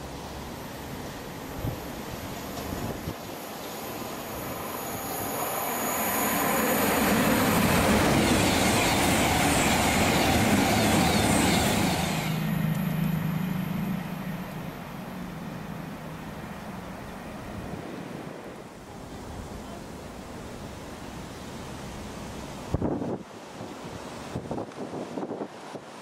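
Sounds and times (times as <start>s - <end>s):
high hiss: 0.0s - 22.8s
train wheel and rail noise: 0.0s - 26.0s.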